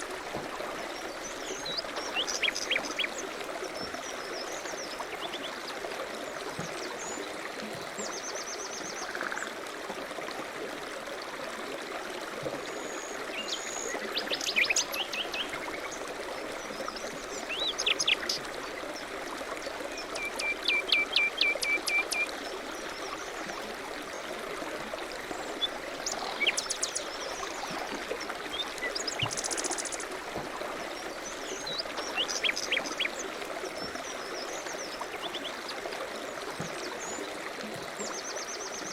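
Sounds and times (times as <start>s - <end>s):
flowing water rushing: 0.0s - 38.9s
songbirds singing and trilling: 0.8s - 9.4s, 12.8s - 19.1s, 19.7s - 23.5s, 25.2s - 30.2s, 30.9s - 38.9s.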